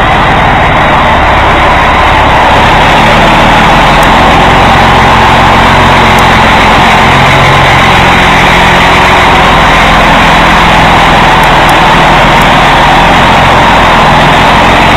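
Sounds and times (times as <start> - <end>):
truck diesel engine running: 0.0 - 14.9.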